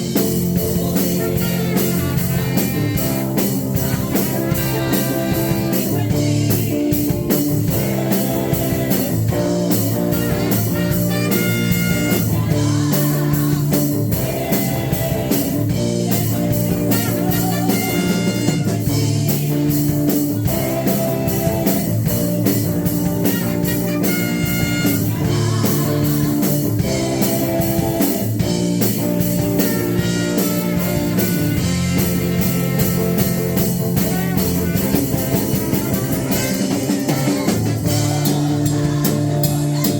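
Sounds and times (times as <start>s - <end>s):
drum kit beat: 0.0s - 39.9s
worship band music: 0.0s - 39.9s.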